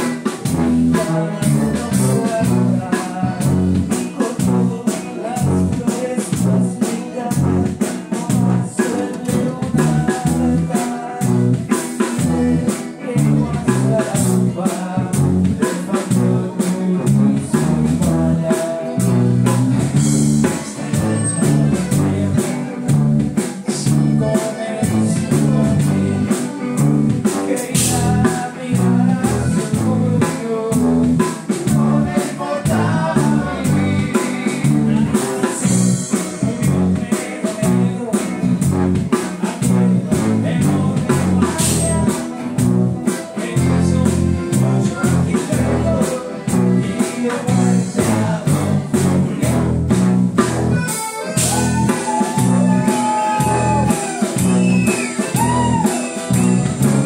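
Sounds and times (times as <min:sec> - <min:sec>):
person singing: 0:00.0 - 0:49.7, 0:50.8 - 0:57.0
live band playing: 0:00.0 - 0:57.0.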